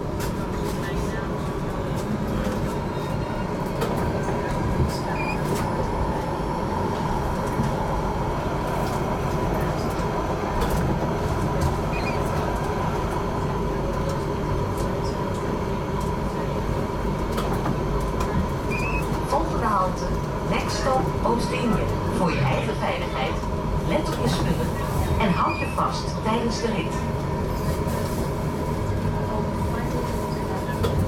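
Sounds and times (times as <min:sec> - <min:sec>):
tram rumbling: 0:00.0 - 0:31.0
tram whine: 0:00.0 - 0:31.0.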